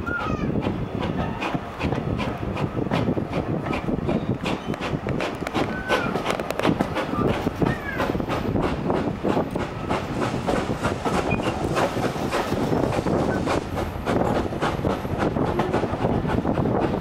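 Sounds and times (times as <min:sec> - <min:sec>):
train rumbling: 0:00.0 - 0:17.0
wheels clattering over rails: 0:00.0 - 0:17.0.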